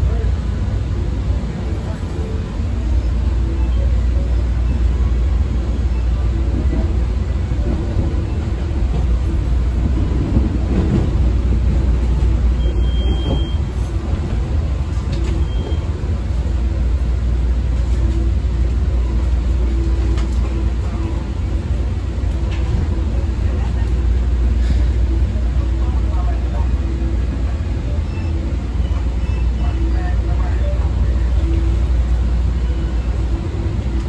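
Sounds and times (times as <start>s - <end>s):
train wheels on rail: 0.0s - 34.0s.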